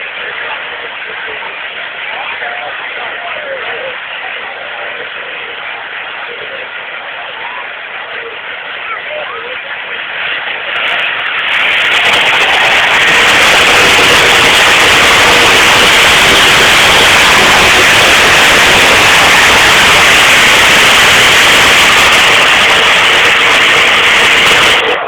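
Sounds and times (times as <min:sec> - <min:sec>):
tractor engine at full throttle: 0:00.0 - 0:25.0.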